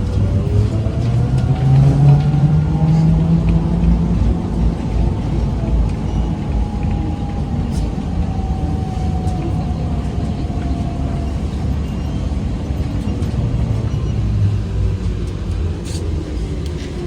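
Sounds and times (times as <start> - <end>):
trolleybus rumble: 0.0 - 17.0.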